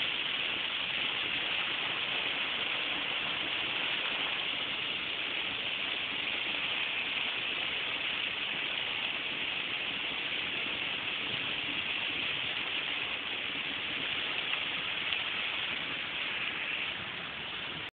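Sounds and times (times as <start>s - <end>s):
car cabin noise hiss: 0.0s - 17.9s.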